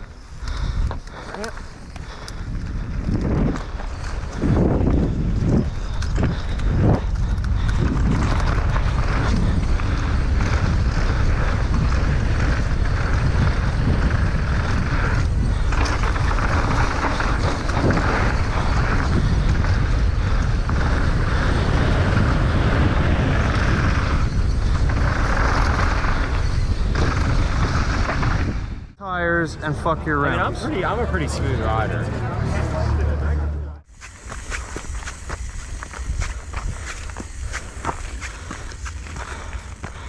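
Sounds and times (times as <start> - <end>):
tyres rumbling on dirt and rock: 0.0 - 28.7, 33.8 - 40.0
wind rushing over microphone: 0.0 - 32.6, 33.8 - 40.0.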